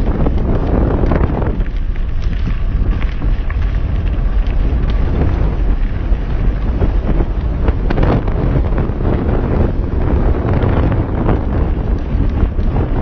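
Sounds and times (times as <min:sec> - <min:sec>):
bike crunching over dirt trail: 0:00.0 - 0:13.0
bike tyre rumble: 0:00.0 - 0:13.0
wind buffeting microphone: 0:00.0 - 0:13.0.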